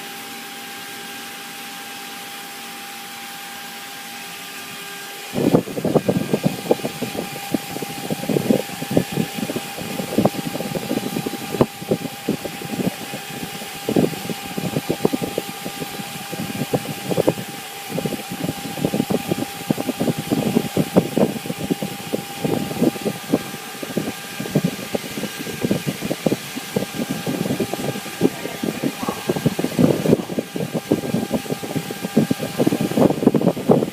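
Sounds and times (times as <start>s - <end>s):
cnc router spindle whine: 0.0s - 33.9s.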